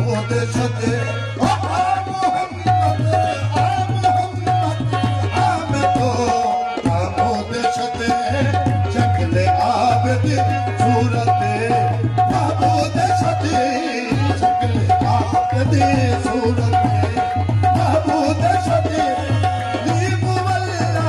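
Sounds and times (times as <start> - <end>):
qawwali music: 0.0 - 21.0
tabla drumming: 0.0 - 21.0.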